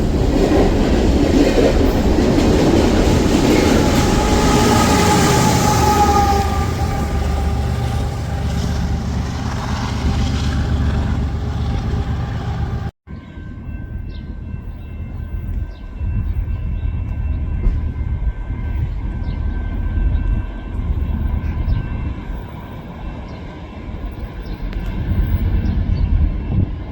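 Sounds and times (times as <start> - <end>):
train cars rumbling on track: 0.0 - 26.9.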